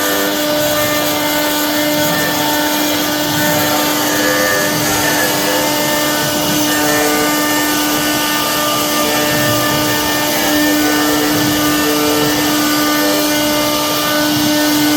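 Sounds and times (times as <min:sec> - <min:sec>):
hiss of wood cutting: 0:00.0 - 0:14.9
router spindle whine: 0:00.0 - 0:14.9.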